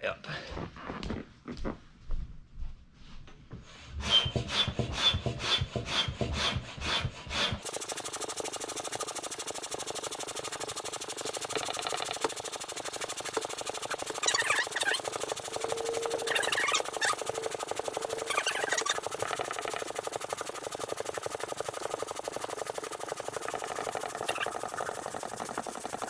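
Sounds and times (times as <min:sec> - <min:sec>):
hand pump strokes: 0:04.0 - 0:26.0.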